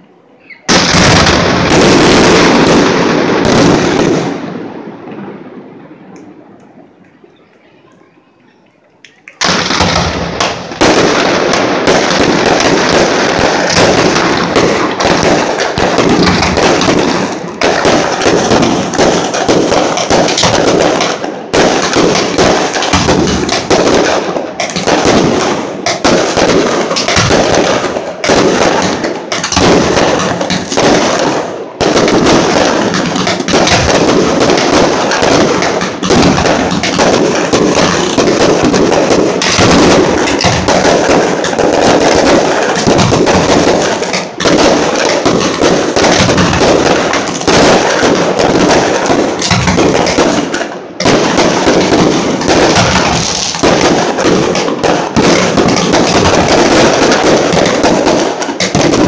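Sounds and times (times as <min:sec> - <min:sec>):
fireworks banging: 0:00.0 - 0:59.0.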